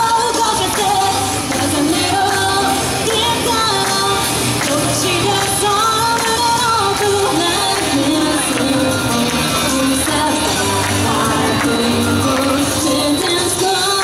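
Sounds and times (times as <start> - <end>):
backing track with steady bass: 0.0 - 14.0
women singing pop song: 0.0 - 14.0.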